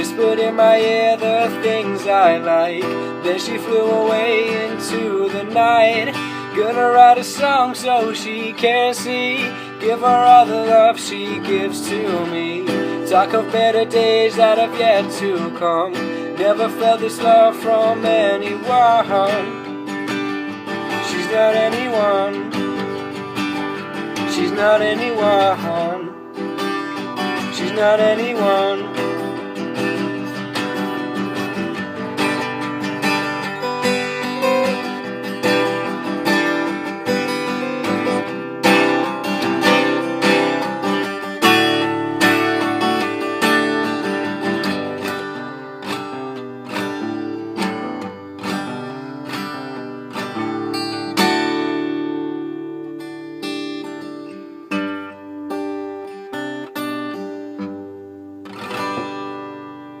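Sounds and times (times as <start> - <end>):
acoustic guitar playing: 0.0 - 60.0.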